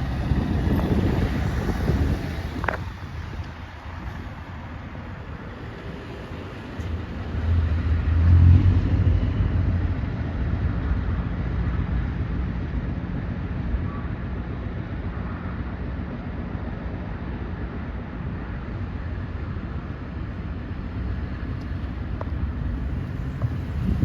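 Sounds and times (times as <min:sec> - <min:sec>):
truck engine running: 0:00.0 - 0:07.4, 0:08.8 - 0:24.0.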